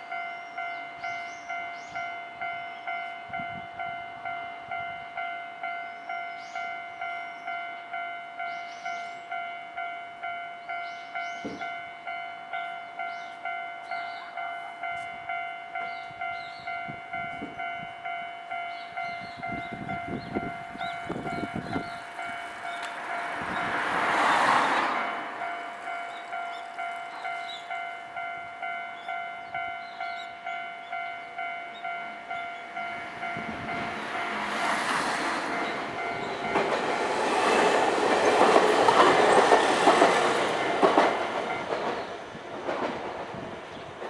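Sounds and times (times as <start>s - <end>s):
level-crossing warning bell: 0.0s - 44.0s
train noise: 0.0s - 44.0s.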